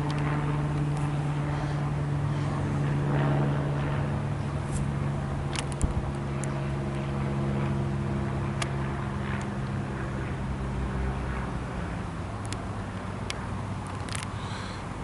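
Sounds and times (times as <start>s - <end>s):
propeller aircraft engine drone: 0.0s - 15.0s.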